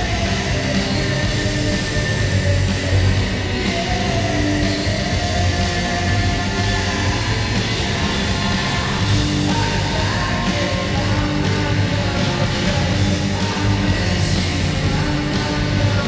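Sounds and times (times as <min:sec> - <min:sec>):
heavy rock song: 0:00.0 - 0:16.0.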